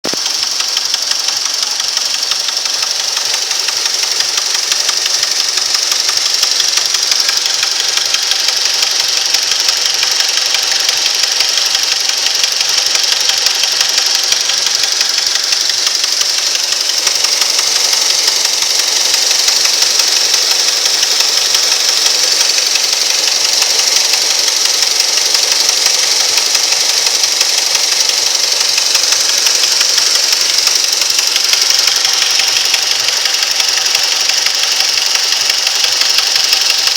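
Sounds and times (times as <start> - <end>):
car engine knocking: 0.0 - 36.9.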